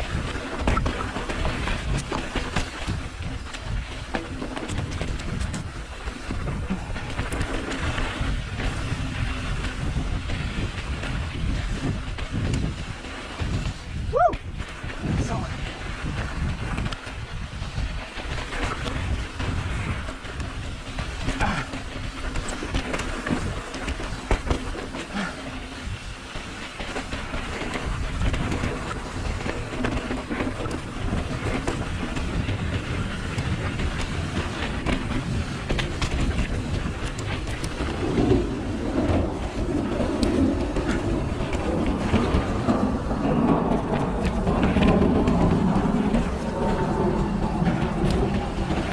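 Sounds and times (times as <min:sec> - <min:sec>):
rumbling rattling over rough trail: 0:00.0 - 0:48.9
wind on microphone: 0:00.0 - 0:48.9.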